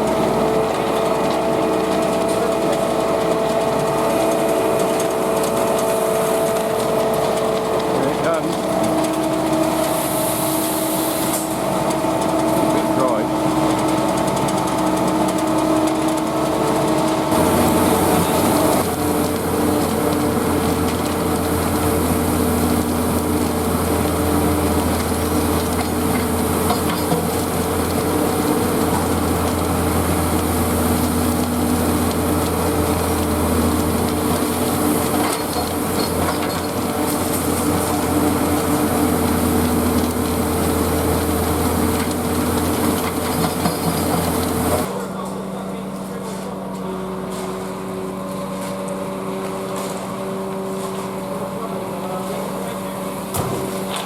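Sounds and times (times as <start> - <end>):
machinery engine running: 0.0 - 54.0.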